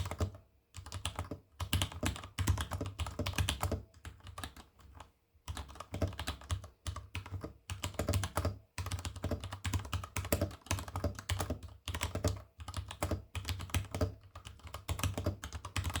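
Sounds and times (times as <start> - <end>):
mechanical keyboard typing: 0.0 - 16.0.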